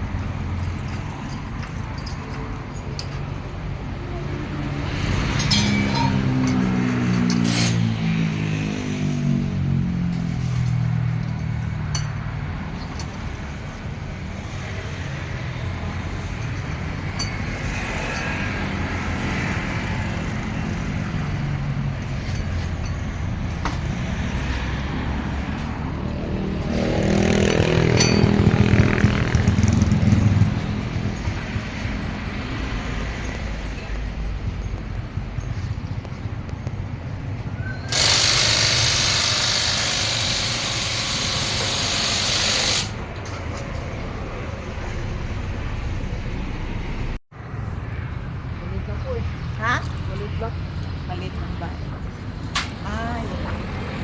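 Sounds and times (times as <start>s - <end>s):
vehicle engines passing: 0.0s - 54.0s.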